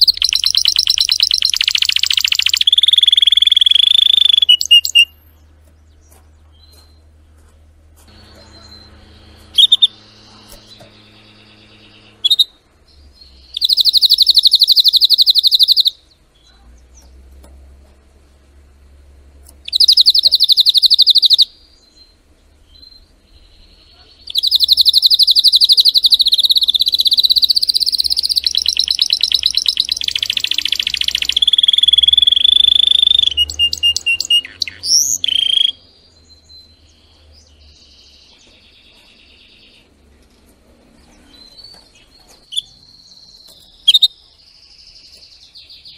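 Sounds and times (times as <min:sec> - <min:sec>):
canary singing trills: 0:00.0 - 0:07.3, 0:08.1 - 0:45.9.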